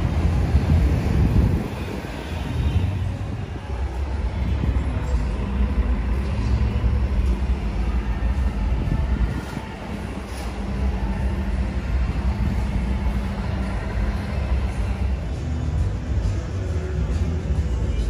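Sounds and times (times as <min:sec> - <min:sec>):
heavy vehicle engine rumbling: 0:00.0 - 0:18.0
street traffic: 0:00.0 - 0:18.0.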